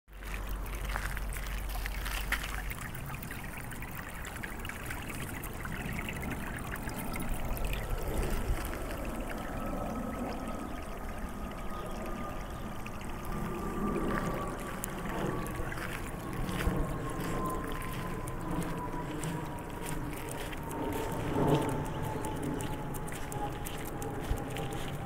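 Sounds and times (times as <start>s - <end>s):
water running in a gutter: 0.1s - 25.0s.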